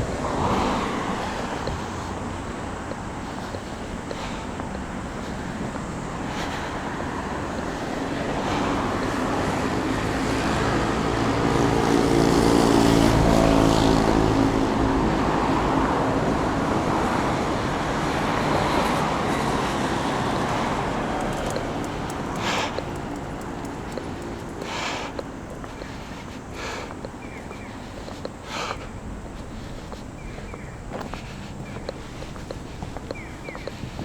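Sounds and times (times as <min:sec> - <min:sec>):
motor vehicle passing: 0:00.0 - 0:34.0.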